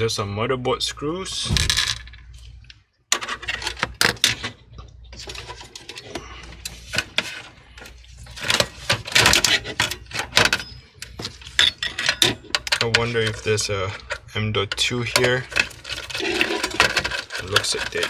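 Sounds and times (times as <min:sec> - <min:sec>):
computer hardware clicks and rattles: 0:01.6 - 0:18.0.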